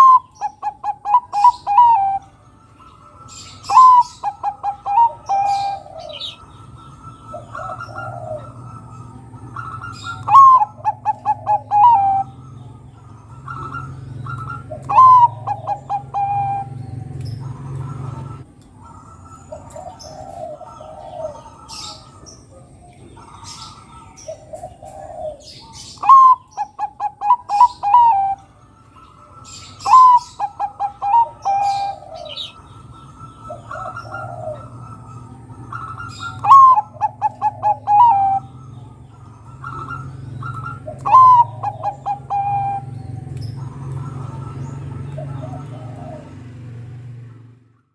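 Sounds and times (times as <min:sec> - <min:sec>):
dove cooing: 0:00.0 - 0:47.5.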